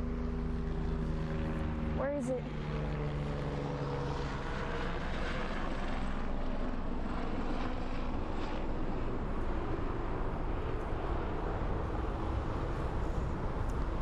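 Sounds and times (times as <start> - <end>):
helicopter rotor and engine drone: 0.0 - 14.0.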